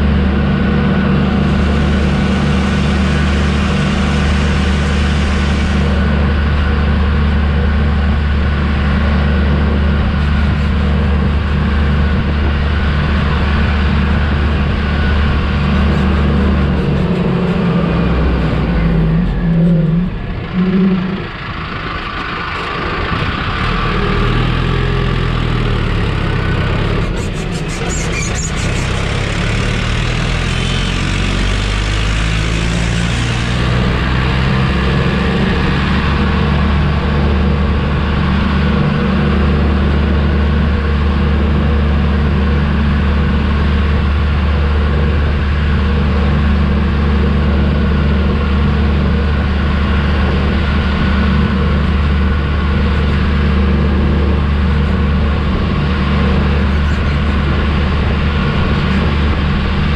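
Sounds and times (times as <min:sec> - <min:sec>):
tractor diesel engine full throttle: 0:00.0 - 0:59.9.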